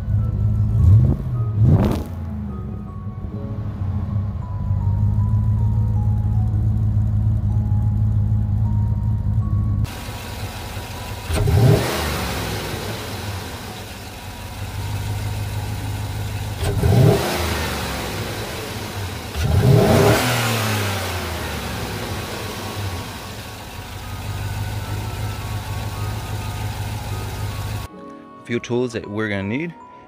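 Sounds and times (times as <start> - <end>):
engine idling and revving: 0.0 - 27.9.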